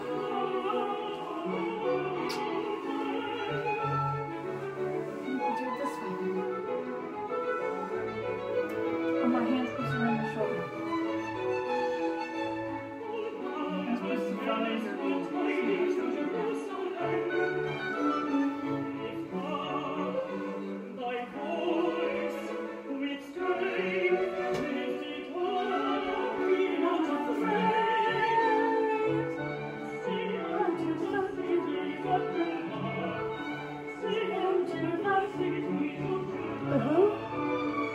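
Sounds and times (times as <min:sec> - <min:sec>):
operatic singing with vibrato: 0:00.0 - 0:37.9
orchestra playing: 0:00.0 - 0:37.9.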